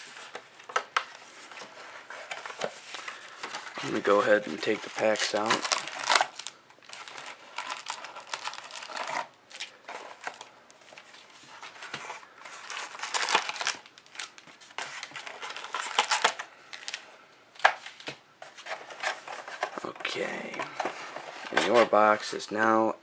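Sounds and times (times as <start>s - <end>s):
card wrappers rustling and crinkling: 0.0s - 22.4s.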